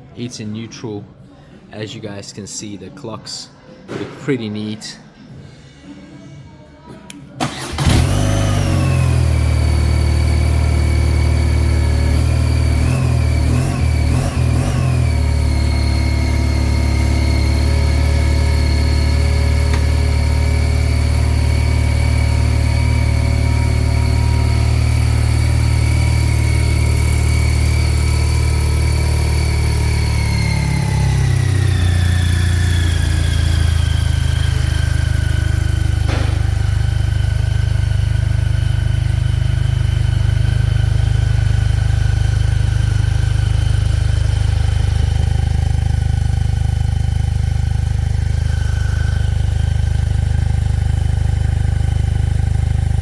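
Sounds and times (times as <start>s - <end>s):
motorcycle engine idling: 7.5s - 53.0s.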